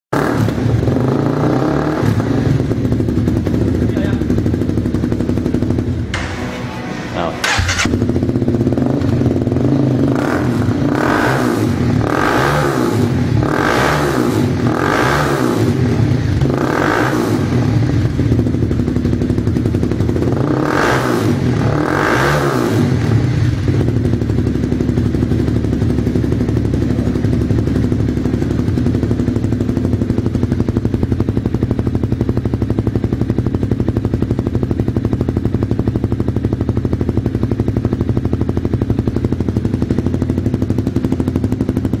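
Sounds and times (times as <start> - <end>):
motorcycle engine idling and revving: 0.1 - 42.0.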